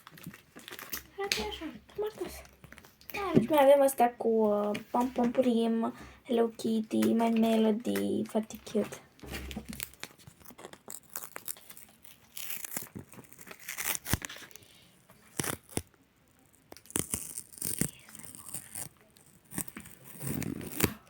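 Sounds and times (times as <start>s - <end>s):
packaging crinkling and tearing: 0.0s - 3.4s, 6.5s - 21.0s.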